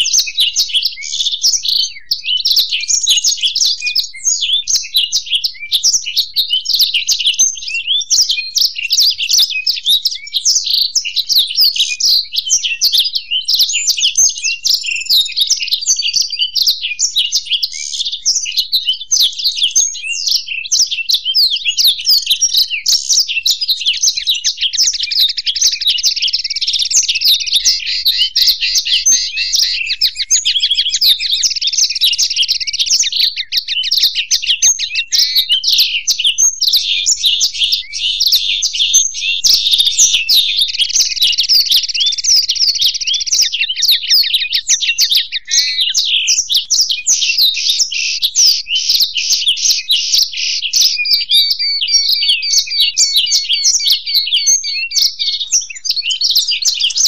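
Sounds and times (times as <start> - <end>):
birds chirping and warbling: 0.0 - 57.0
rapid bird trill: 0.0 - 57.0.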